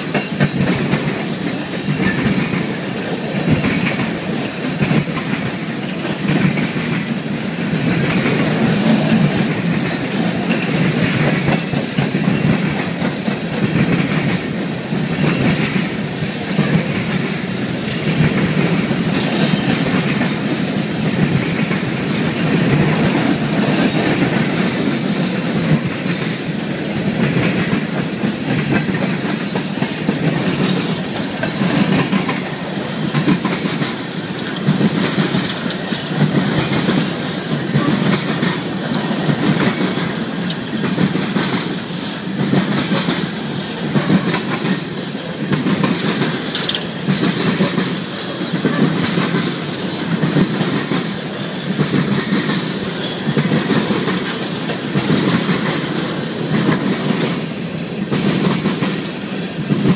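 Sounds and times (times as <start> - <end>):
clickety-clack of wheels: 0.0 - 59.9
train wheels rumbling on rail: 0.0 - 59.9.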